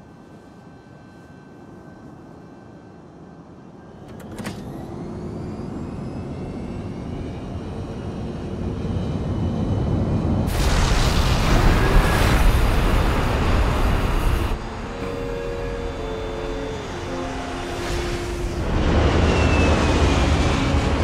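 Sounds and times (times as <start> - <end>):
jet engines spooling up: 3.8 - 21.0.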